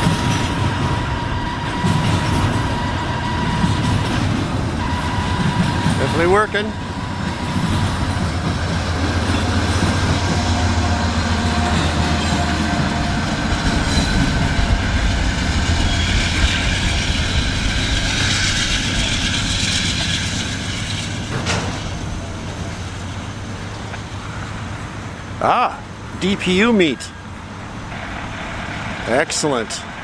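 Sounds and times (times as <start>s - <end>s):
train wheels hissing on rails: 0.0s - 25.4s, 27.1s - 30.0s
diesel locomotive engine hum: 0.0s - 30.0s.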